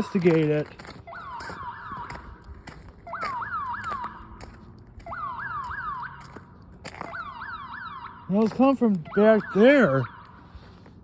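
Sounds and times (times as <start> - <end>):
alarm siren whoops: 1.0 - 10.6.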